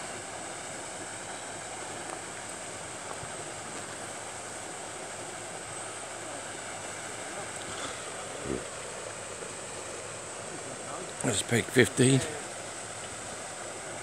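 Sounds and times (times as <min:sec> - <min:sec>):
outdoor ambience hiss: 0:00.0 - 0:14.0.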